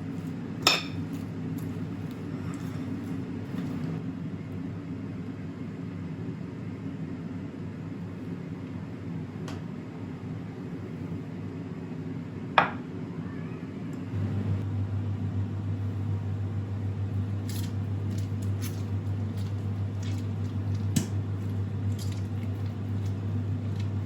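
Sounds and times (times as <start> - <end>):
appliance electric hum: 0.0 - 24.0
constant background hum: 0.0 - 24.0.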